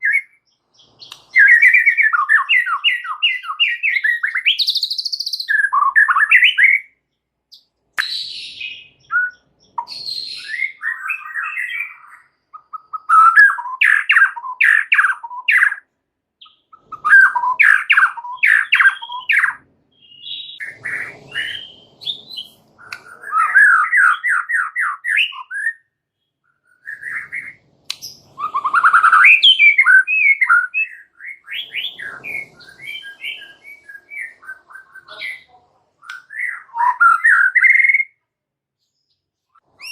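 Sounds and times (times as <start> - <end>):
songbird singing varied phrases: 0.0 - 38.2, 38.8 - 39.9.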